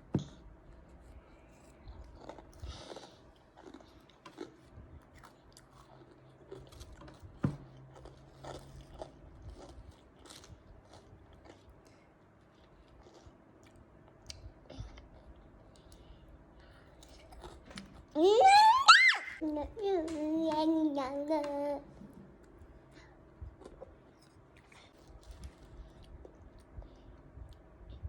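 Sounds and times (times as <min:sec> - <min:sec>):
chewing and crunching: 0:00.7 - 0:18.2, 0:22.4 - 0:27.8.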